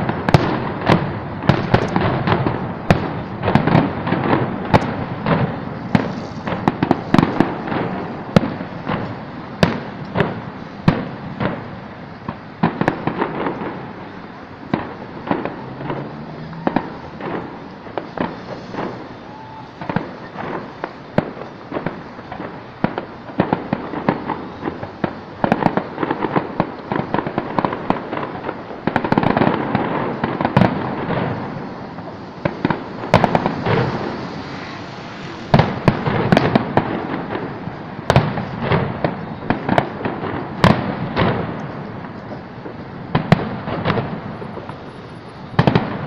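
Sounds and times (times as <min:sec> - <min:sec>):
fireworks cracking and banging: 0:00.0 - 0:46.0.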